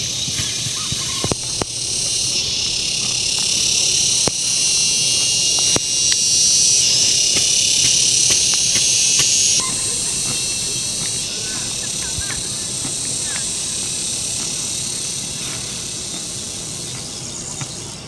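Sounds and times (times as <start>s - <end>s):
sharp clicks: 0.0s - 15.3s
insect chorus: 0.0s - 18.0s.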